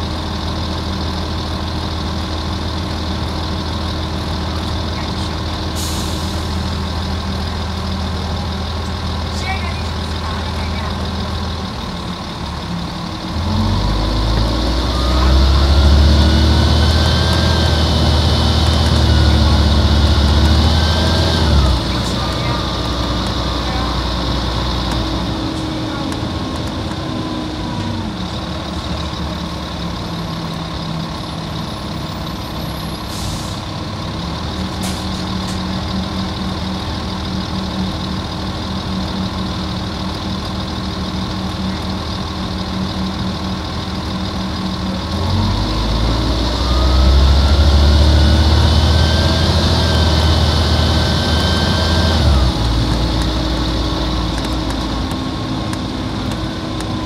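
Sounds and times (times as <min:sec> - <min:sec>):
diesel bus engine: 0:00.0 - 0:57.0.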